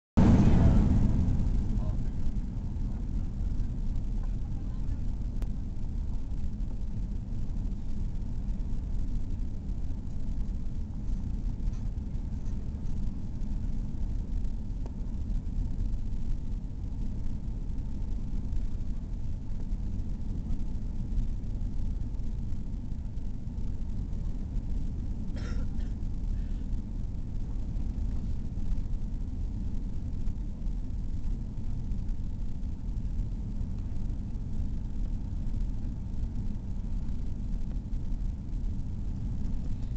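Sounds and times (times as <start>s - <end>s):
aircraft cabin rumble: 0.2s - 39.9s.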